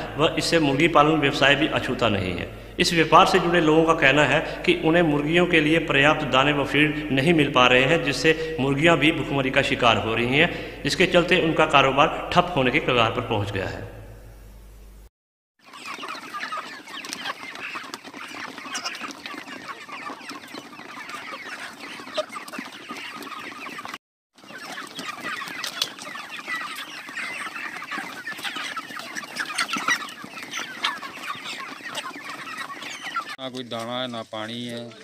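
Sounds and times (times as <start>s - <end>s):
flock of chickens clucking: 0.0s - 9.5s, 15.6s - 35.0s.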